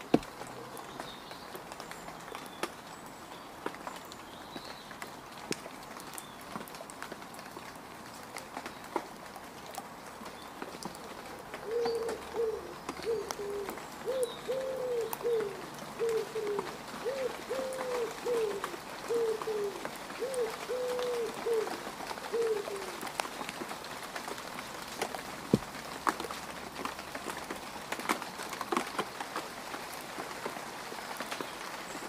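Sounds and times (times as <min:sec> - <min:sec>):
rain pattering on mud: 0:00.0 - 0:32.0.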